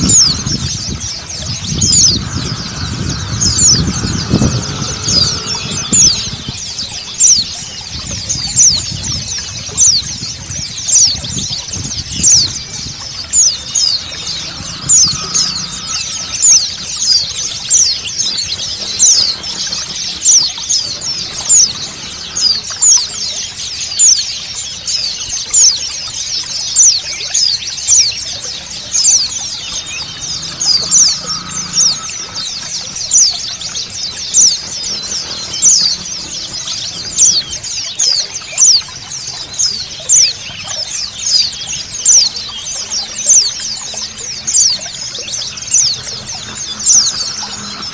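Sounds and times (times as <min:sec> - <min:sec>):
flock of birds twittering: 0:00.0 - 0:47.9
running water: 0:00.0 - 0:47.9.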